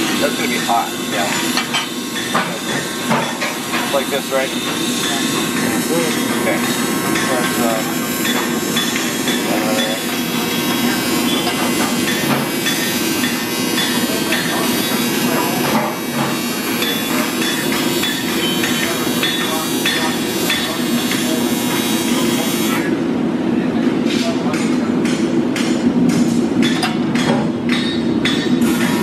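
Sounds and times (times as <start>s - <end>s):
steady buzzing hum: 0.0s - 23.5s.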